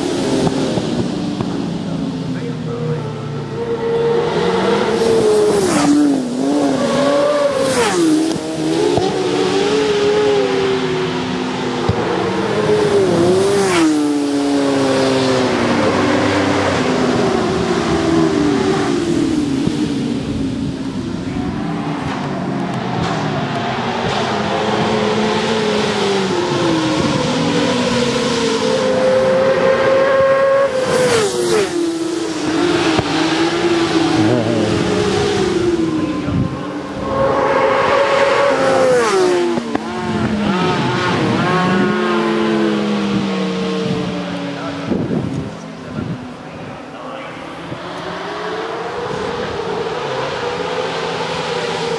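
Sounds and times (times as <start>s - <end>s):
motorcycle engines revving high: 0.0s - 51.9s.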